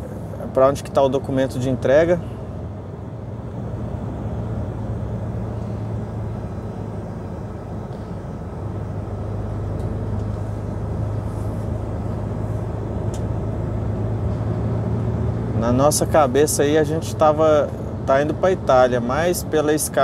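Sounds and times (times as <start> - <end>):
lorry diesel engine droning: 0.0 - 20.0
road noise: 0.0 - 20.0.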